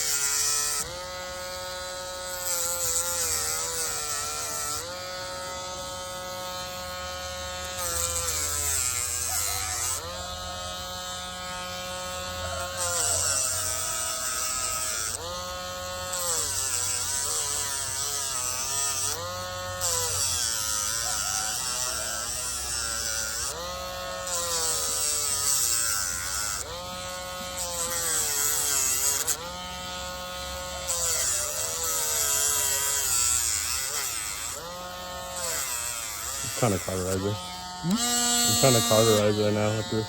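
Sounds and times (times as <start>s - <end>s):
rotary tool grinding: 0.0s - 40.0s.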